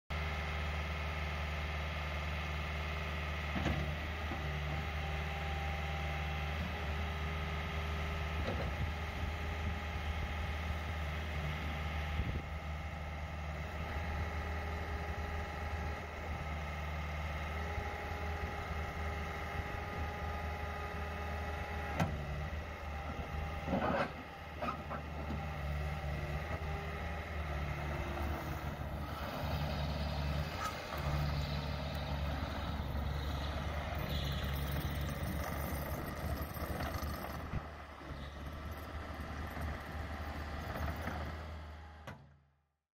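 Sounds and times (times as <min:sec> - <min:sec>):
diesel loader engine running: 0:00.1 - 0:42.4.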